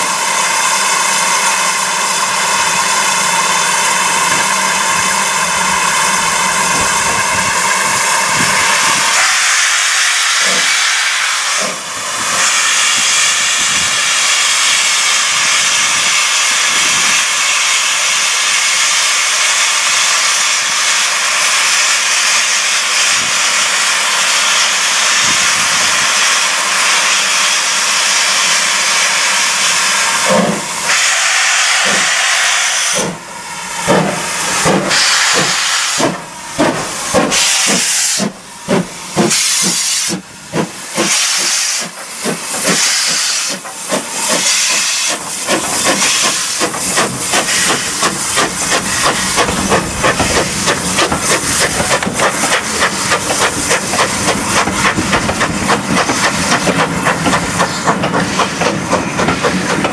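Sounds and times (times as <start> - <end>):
steam hissing: 0.0 - 59.9
steam locomotive exhaust chuffs: 0.0 - 59.9.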